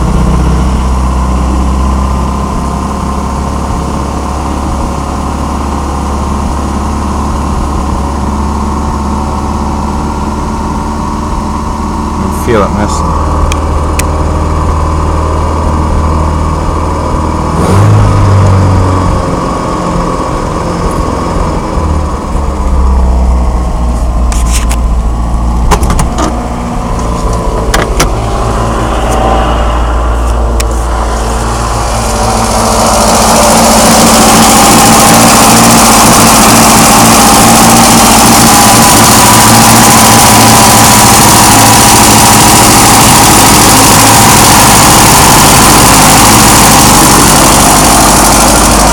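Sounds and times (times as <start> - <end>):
car engine idling roughly: 0.0 - 17.8, 18.8 - 48.9.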